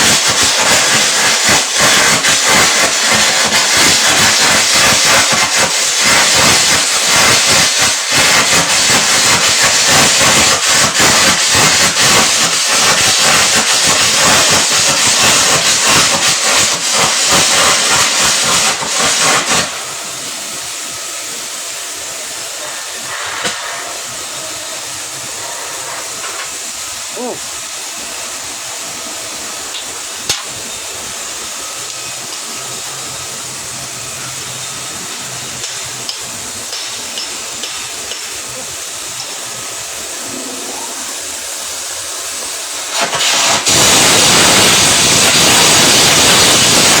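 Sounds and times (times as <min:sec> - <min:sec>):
steady hiss: 0:00.0 - 0:47.0
welding arc crackling: 0:00.0 - 0:47.0.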